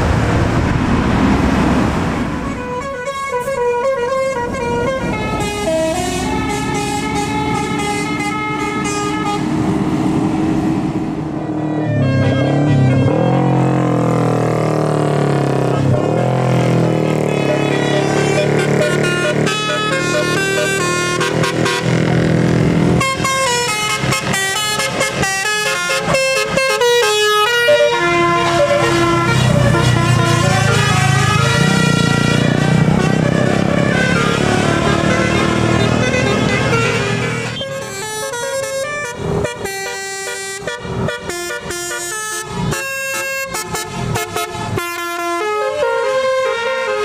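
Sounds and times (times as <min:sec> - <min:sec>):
bus engine running: 0:00.0 - 0:47.0
multi-note bus horn melody: 0:02.3 - 0:09.8, 0:11.3 - 0:14.5, 0:15.4 - 0:47.0.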